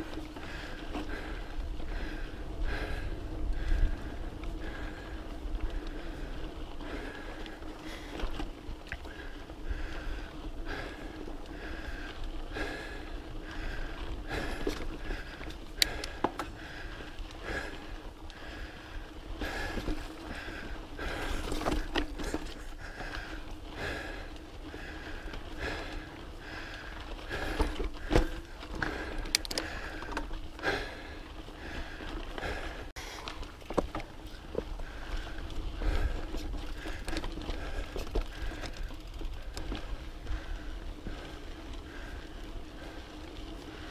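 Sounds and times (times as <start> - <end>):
bike tyres rumbling on dirt: 0.0 - 43.9
rider breathing: 0.0 - 43.9
wheels knocking on rocks: 0.0 - 43.9.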